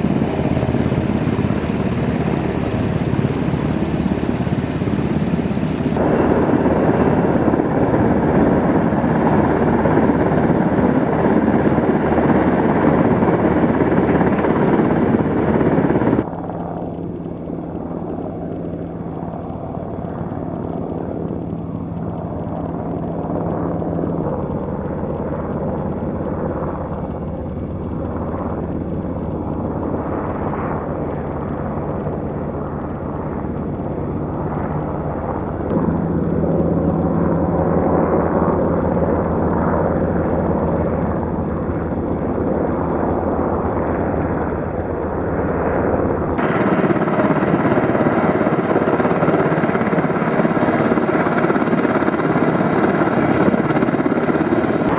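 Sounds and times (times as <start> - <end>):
helicopter rotor chop: 0.0 - 54.9.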